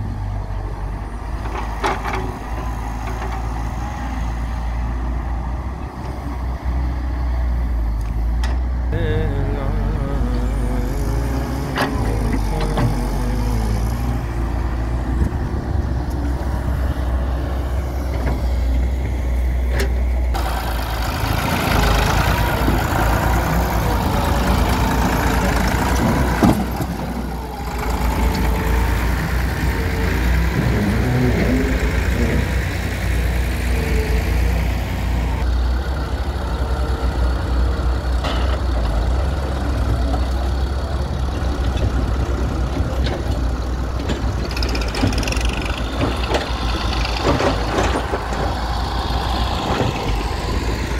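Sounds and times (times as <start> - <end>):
diesel engines rumbling: 0.0 - 50.9.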